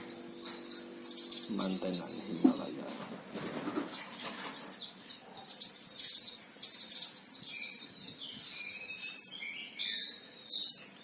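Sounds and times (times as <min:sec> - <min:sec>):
songbird singing trills: 0:00.0 - 0:11.0.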